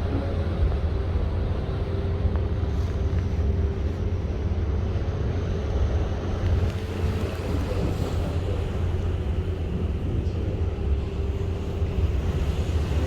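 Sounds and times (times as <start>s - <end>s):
sea noise: 0.0s - 13.0s
ship machinery hum: 0.0s - 13.0s
wind: 0.0s - 13.0s.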